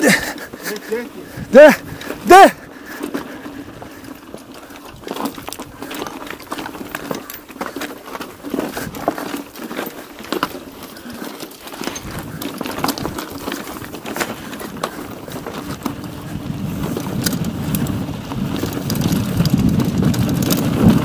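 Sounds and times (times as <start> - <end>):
mountain bike clattering over stones: 0.0 - 21.0.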